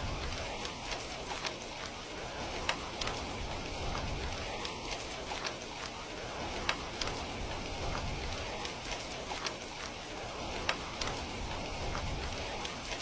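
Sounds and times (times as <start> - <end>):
heavy rain falling: 0.0 - 13.0
sharp raindrop impacts: 0.0 - 13.0.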